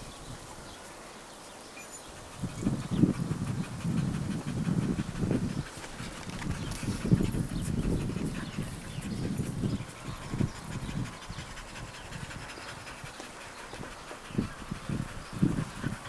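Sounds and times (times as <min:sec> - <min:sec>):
dog panting: 0:02.0 - 0:16.0.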